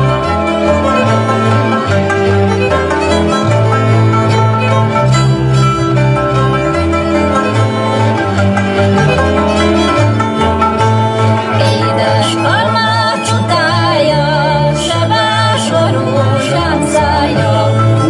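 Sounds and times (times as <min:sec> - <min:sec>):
bass line: 0:00.0 - 0:18.0
folk dance music with fiddle: 0:00.0 - 0:18.0.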